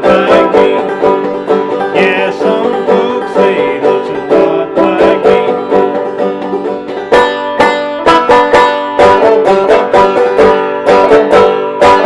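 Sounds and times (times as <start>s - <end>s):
banjo plucked notes: 0.0s - 12.0s.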